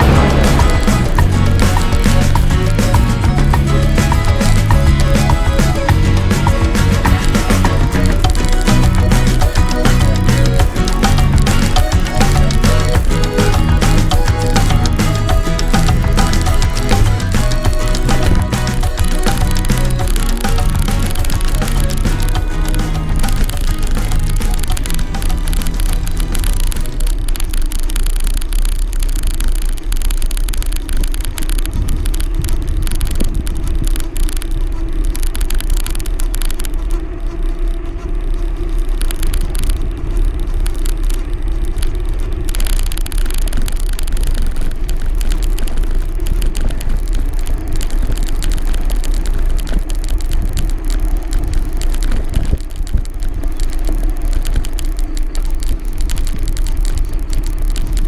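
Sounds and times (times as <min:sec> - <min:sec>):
road vehicle engine rumbling: 0:00.0 - 0:58.0.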